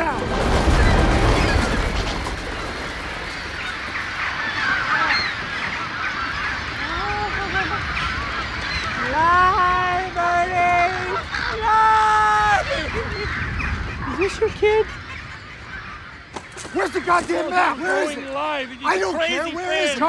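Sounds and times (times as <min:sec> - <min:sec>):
birds honking cries: 0:00.0 - 0:20.0
flock of birds chirping: 0:00.0 - 0:20.0.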